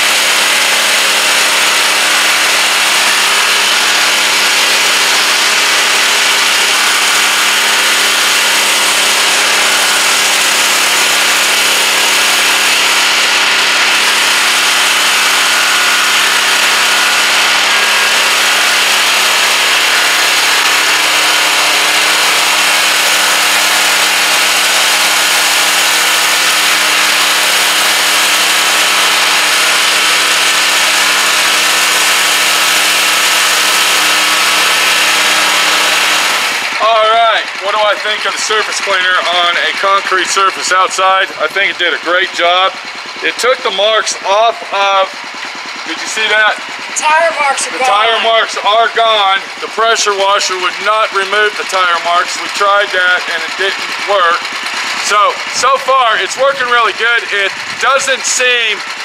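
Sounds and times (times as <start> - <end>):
pressure washer humming: 0.0 - 59.0.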